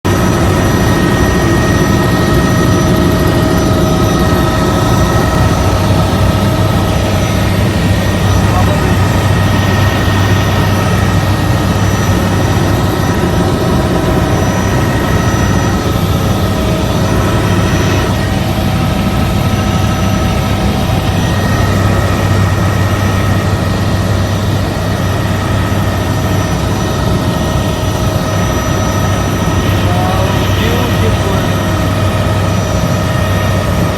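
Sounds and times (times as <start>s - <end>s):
helicopter cabin drone: 0.0s - 33.9s
steady whining tones: 0.1s - 33.9s.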